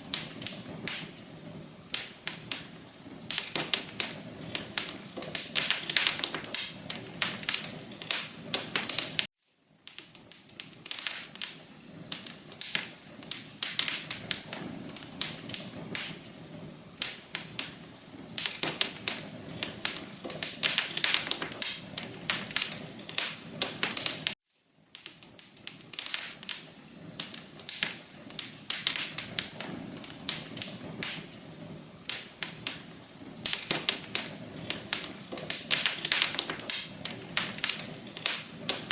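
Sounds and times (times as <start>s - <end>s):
low hiss: 0.0s - 38.9s
wood fire crackling: 0.0s - 38.9s.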